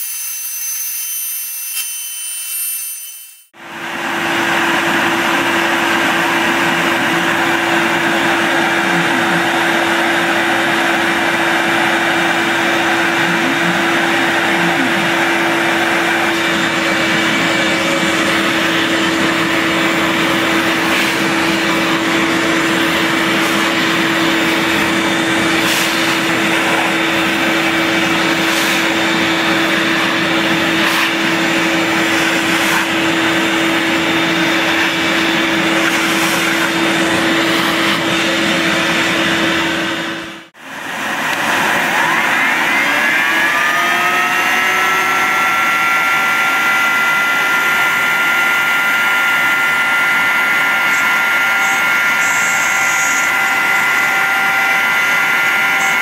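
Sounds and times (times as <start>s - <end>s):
shop vacuum sucking wood chips: 3.6s - 56.0s.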